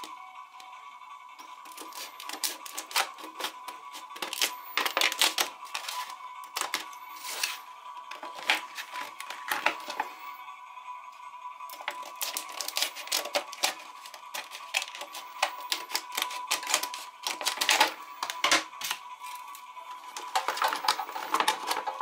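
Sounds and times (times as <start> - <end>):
plastic crackling and clicking: 1.6 - 10.1, 11.7 - 22.0
scissors snipping plastic: 1.6 - 10.1, 11.7 - 19.4, 20.2 - 22.0.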